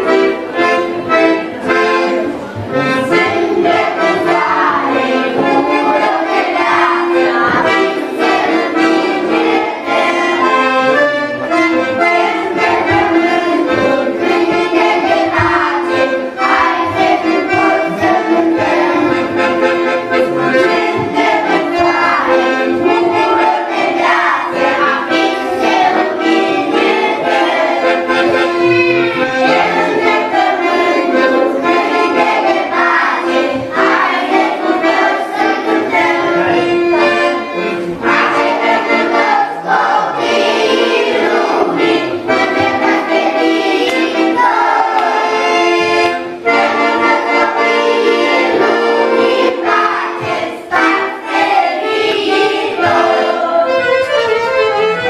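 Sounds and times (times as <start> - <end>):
accordion playing: 0.0 - 55.0
woman and children singing: 0.0 - 55.0.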